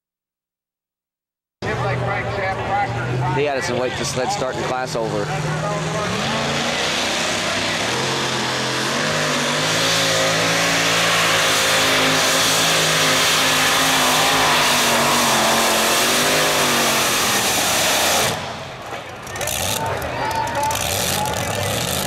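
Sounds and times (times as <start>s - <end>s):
truck engine at full throttle: 1.6s - 22.0s.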